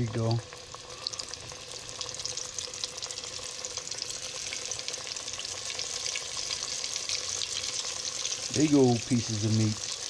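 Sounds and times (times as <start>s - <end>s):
fish deep-frying in hot oil: 0.0s - 10.0s.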